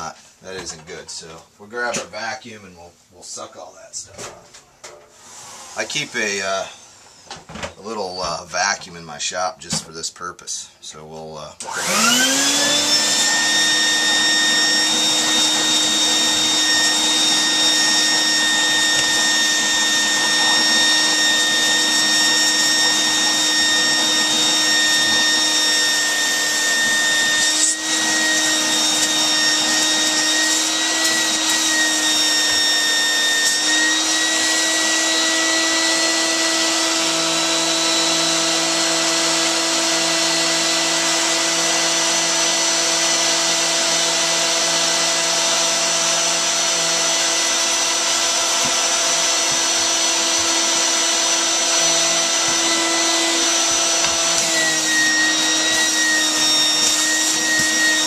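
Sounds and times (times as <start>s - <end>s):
shop vacuum whining: 3.5s - 9.0s, 11.4s - 58.0s.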